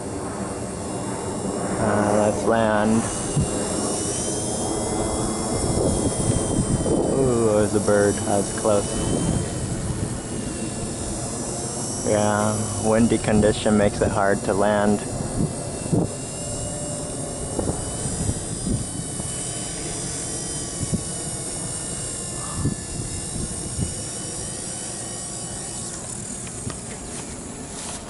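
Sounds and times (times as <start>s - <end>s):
wind buffeting microphone: 0.0s - 27.6s
toy helicopter whining: 0.0s - 28.0s.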